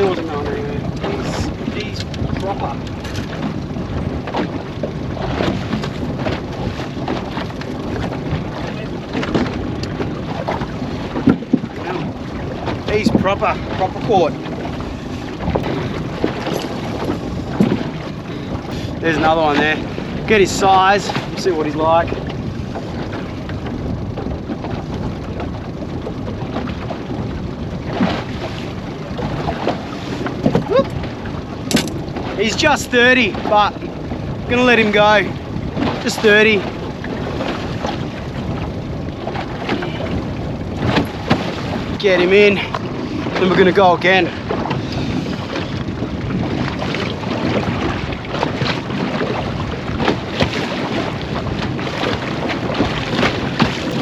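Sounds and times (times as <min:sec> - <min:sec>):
sharp knocks and splashes: 0:00.0 - 0:54.0
water around a boat: 0:00.0 - 0:54.0
wind on microphone: 0:00.0 - 0:54.0.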